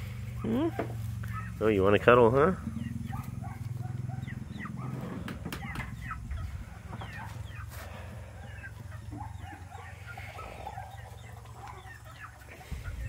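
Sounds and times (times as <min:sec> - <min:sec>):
chickens clucking and chirping: 0:00.0 - 0:13.0
low steady rumble: 0:00.0 - 0:13.0.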